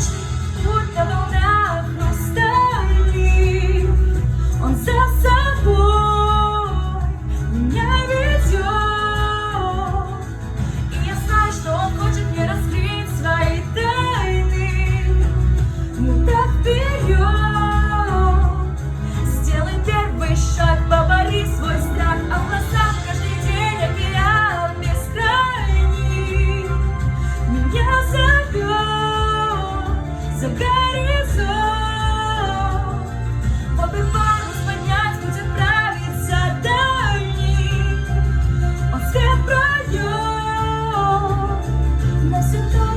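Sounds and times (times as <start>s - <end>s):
backing track music: 0.0s - 42.9s
steady bass: 0.0s - 42.9s
woman singing pop song: 0.0s - 42.9s.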